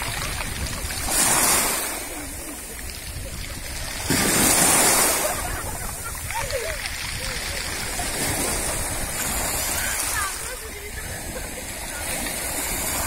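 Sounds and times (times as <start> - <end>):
small waves washing: 0.0 - 13.0.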